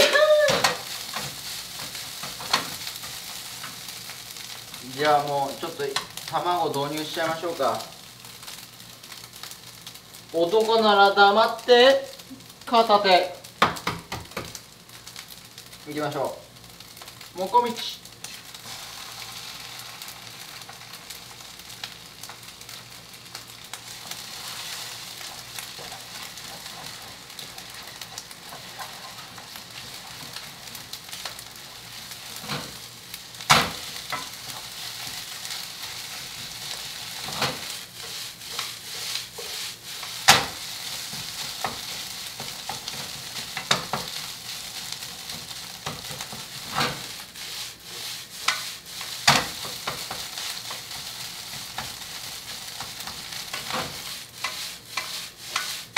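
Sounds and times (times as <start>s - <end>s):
food sizzling in frying pan: 0.0s - 55.9s.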